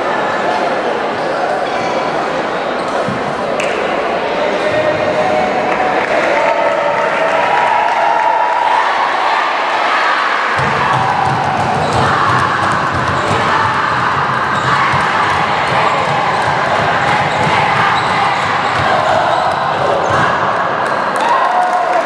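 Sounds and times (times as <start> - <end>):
crowd cheering and shouting: 4.3 - 22.0.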